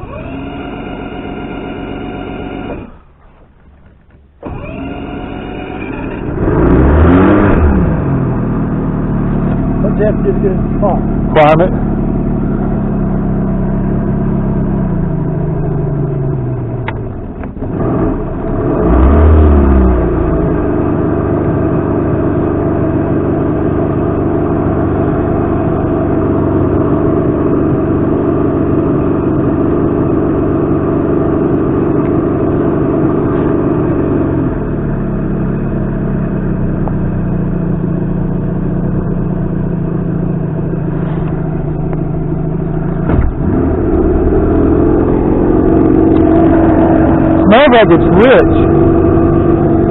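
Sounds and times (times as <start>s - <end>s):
outboard motor revving: 0.0s - 49.9s.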